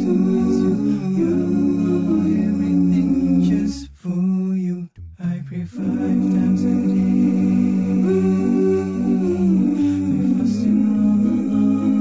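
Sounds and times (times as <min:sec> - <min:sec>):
voices singing a cappella: 0:00.0 - 0:12.0.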